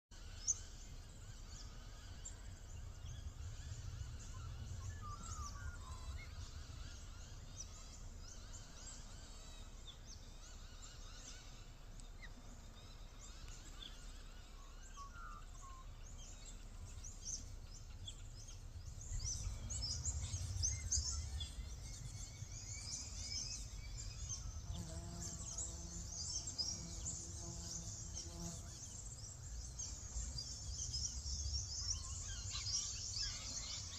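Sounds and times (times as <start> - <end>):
insects and birds chirping: 0.1 - 33.9.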